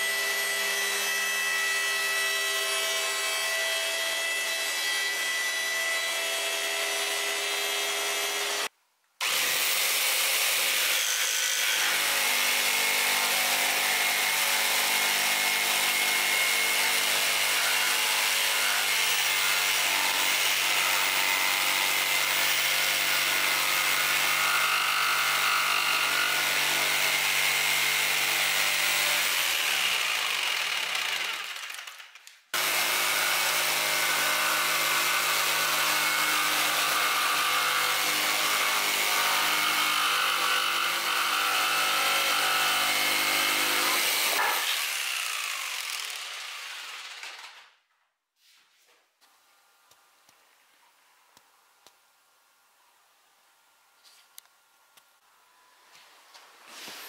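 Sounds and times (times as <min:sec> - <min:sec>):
power tool cutting wood: 0:00.0 - 0:47.7.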